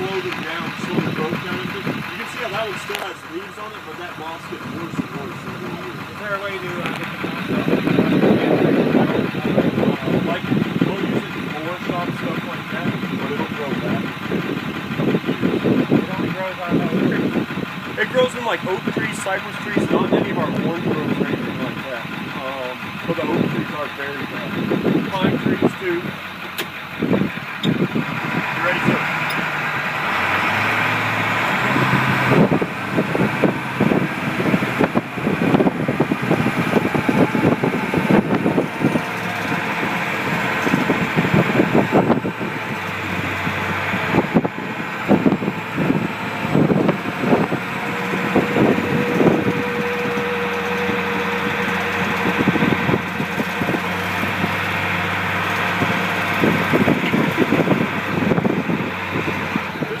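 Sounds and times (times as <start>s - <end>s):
truck engine running: 0.0s - 60.0s
truck knocking and rattling: 0.0s - 60.0s.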